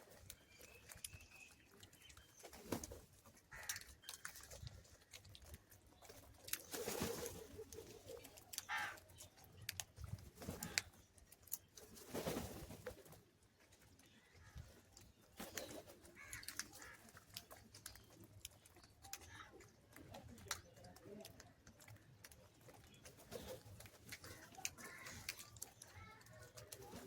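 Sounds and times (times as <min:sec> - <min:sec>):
birds calling faintly: 0:00.0 - 0:27.0.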